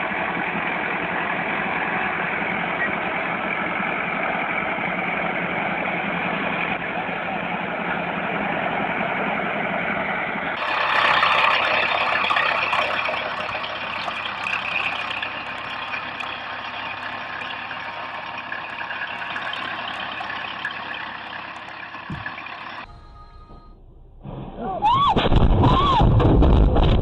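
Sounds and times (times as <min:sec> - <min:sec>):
heavy vehicle engine running: 0:00.0 - 0:24.8.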